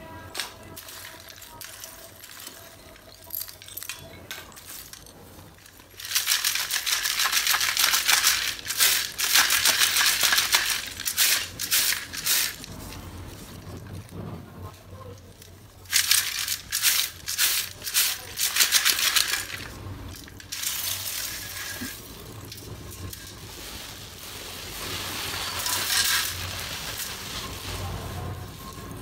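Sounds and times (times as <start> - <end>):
dry clay pieces rustling: 0.3 - 14.1, 15.1 - 29.0
clay pieces rattling in metal tub: 0.7 - 13.0, 15.4 - 29.0.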